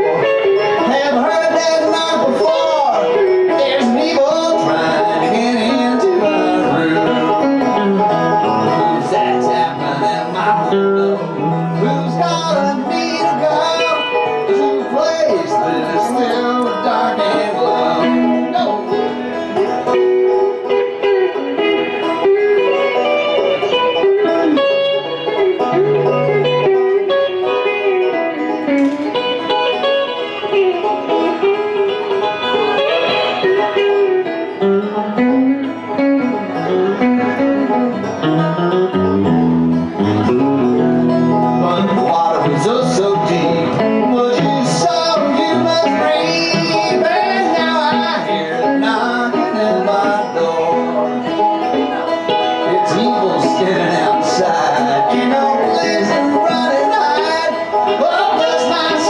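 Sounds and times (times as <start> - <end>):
banjo: 0.0 - 59.0
electric guitar: 0.0 - 59.0.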